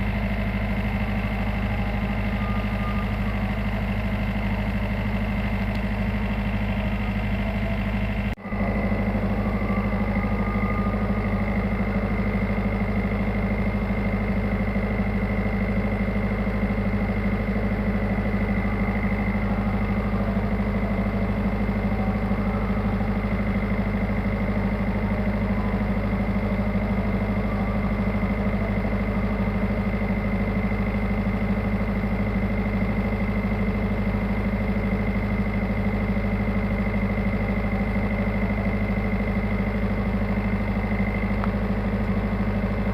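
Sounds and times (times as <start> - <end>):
boat diesel engine running: 0.0 - 42.9.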